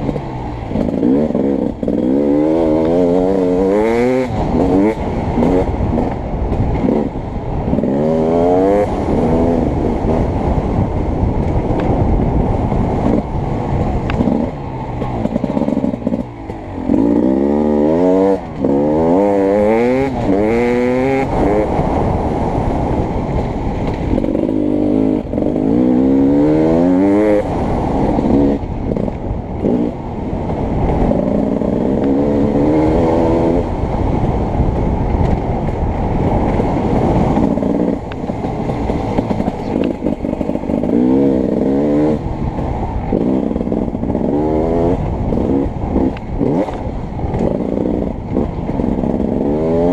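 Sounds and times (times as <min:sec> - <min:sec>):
dirt bike engine revving: 0:00.0 - 0:10.9, 0:12.0 - 0:22.7, 0:23.8 - 0:34.0, 0:36.2 - 0:49.9.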